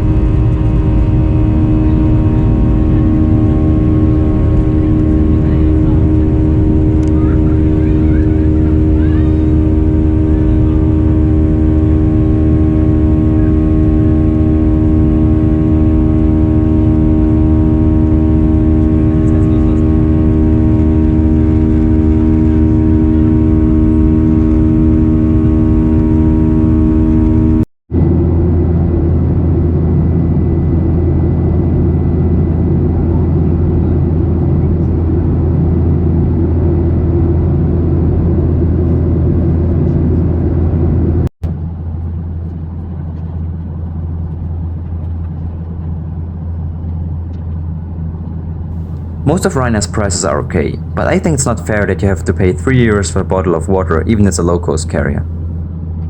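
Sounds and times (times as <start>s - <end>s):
jet cabin engine drone: 0.0s - 56.0s.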